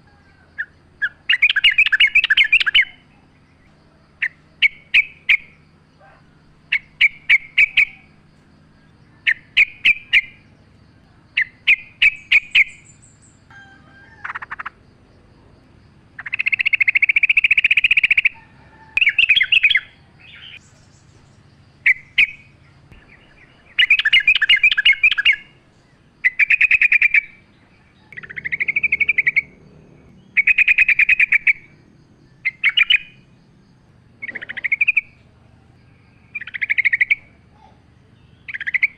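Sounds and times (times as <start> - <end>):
bulbul singing: 0.0 - 38.9.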